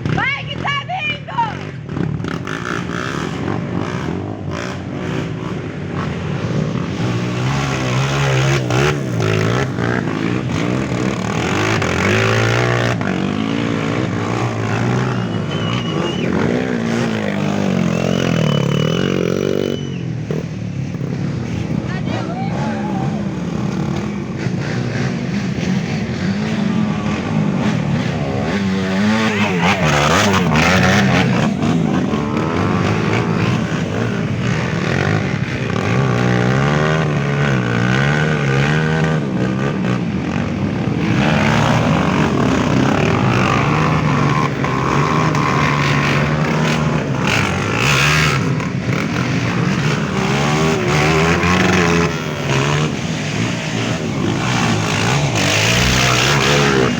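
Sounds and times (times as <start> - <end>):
motorcycles revving: 0.0 - 56.9.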